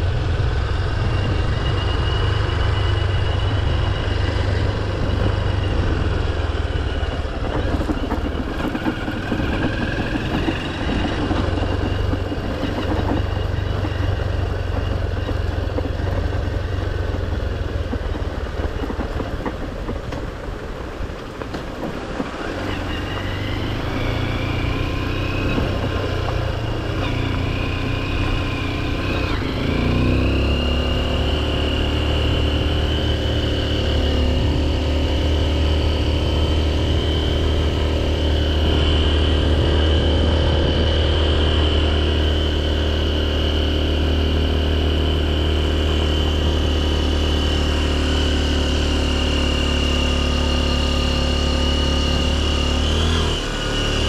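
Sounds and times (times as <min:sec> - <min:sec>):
wind noise: 0:00.0 - 0:47.1
motorcycle engine running: 0:00.0 - 0:54.0.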